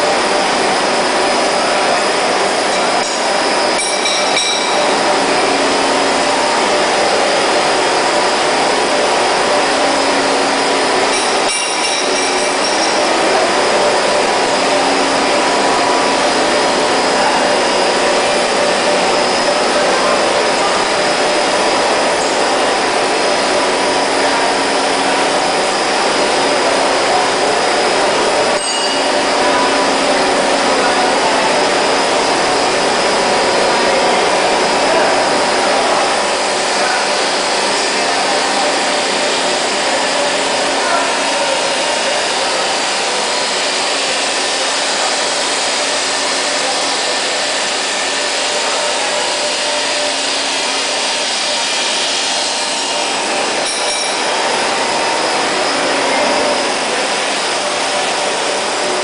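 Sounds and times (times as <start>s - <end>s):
steady machine drone: 0.0s - 59.0s.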